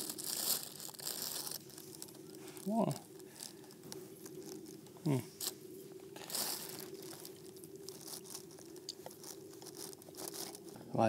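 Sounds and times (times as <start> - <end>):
crust crunching and cracking: 0.0 - 11.0.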